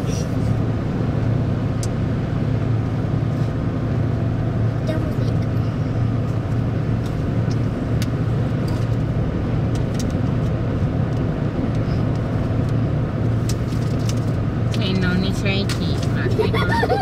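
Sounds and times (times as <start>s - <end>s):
vehicle engine hum and road noise: 0.0s - 17.0s.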